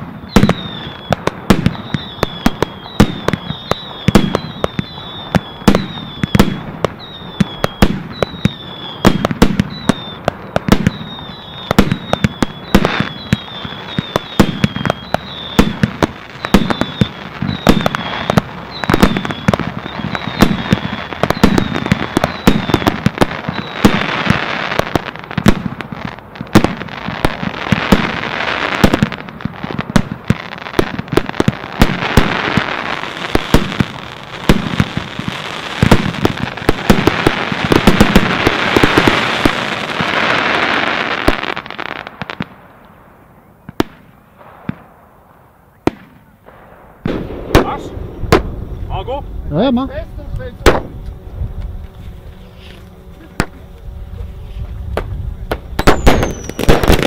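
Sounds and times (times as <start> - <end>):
fireworks banging: 0.0 - 57.0
fireworks hissing: 0.0 - 57.0
fireworks whistling: 0.0 - 57.0.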